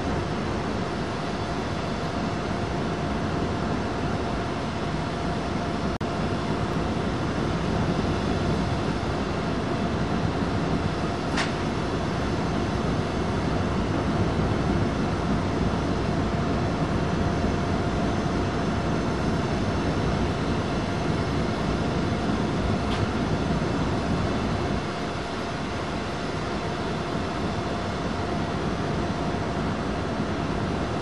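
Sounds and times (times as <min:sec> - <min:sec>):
constant high whine: 0:00.0 - 0:31.0
diesel locomotive engine drone: 0:00.0 - 0:31.0.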